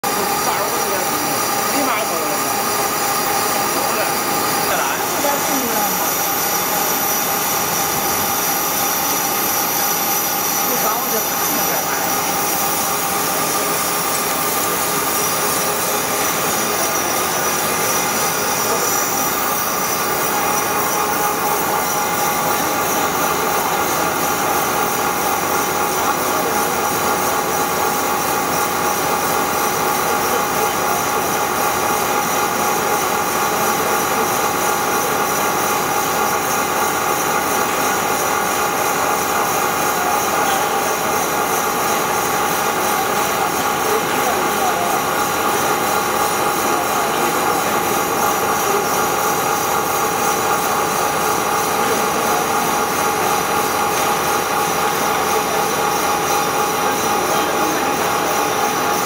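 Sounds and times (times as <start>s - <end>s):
lathe machine drone: 0.0s - 59.0s.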